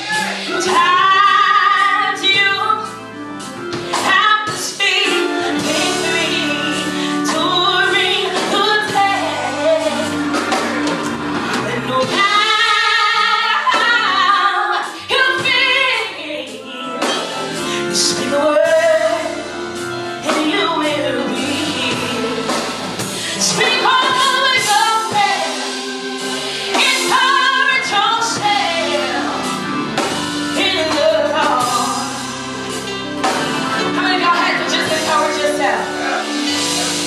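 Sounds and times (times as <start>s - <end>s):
woman singing gospel: 0.0s - 10.7s, 11.5s - 36.7s
instrumental accompaniment: 0.0s - 37.0s.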